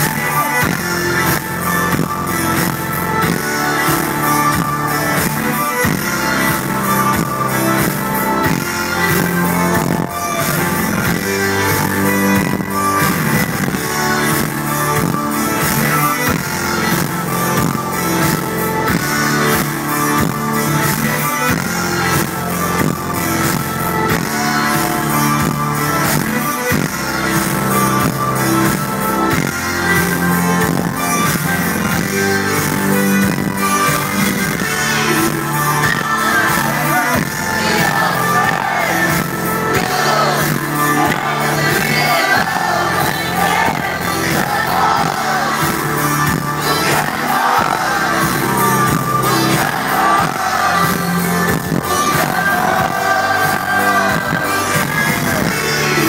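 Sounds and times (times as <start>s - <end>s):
loud electronic dance music: 0.0s - 56.0s.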